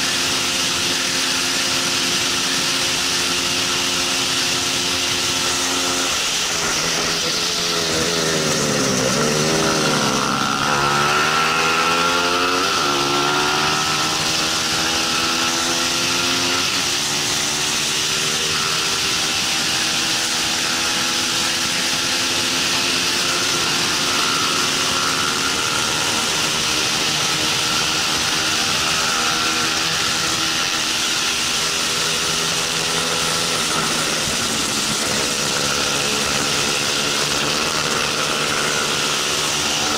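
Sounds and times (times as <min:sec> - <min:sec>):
gear changes: 0:00.0 - 0:39.9
motorcycle engine revving: 0:00.0 - 0:39.9.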